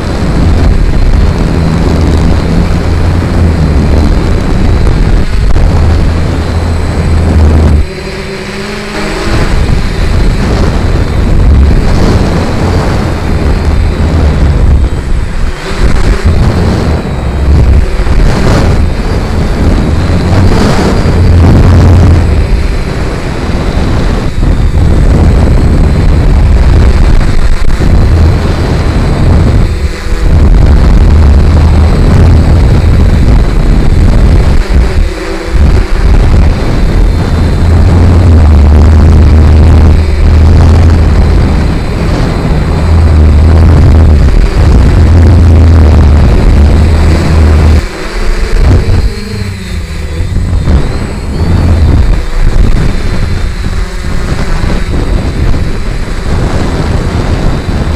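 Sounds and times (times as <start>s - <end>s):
gusty wind buffeting microphone: 0.0s - 57.9s
quadcopter propellers whirring: 0.0s - 57.9s.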